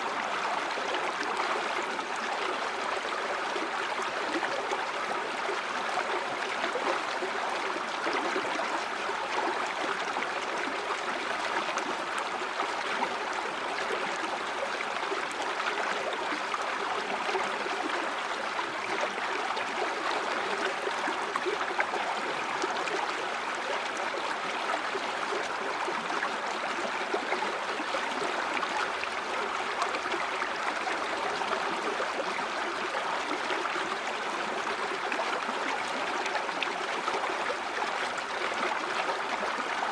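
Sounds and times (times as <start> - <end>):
river water gurgling over stones: 0.1 - 39.9.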